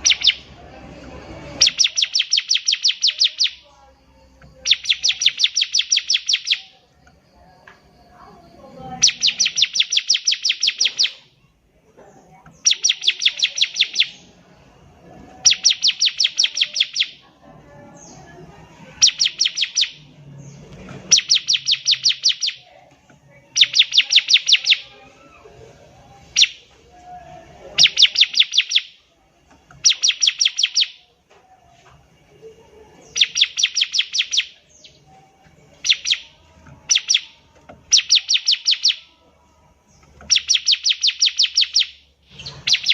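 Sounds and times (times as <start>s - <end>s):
bird chipping song: 0.0s - 11.6s, 12.3s - 26.8s, 27.4s - 31.1s, 33.0s - 42.9s.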